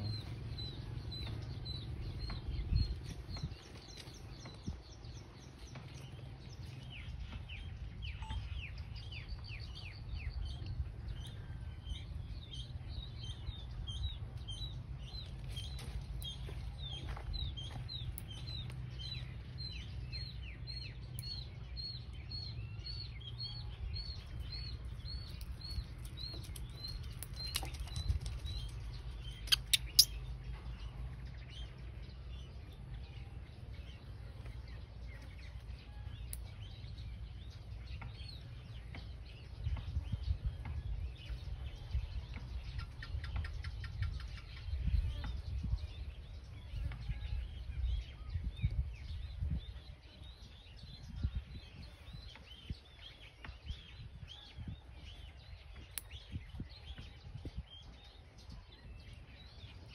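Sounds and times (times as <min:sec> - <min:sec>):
bird chirping: 0:00.0 - 0:59.9
steady low rumble: 0:00.0 - 0:59.9.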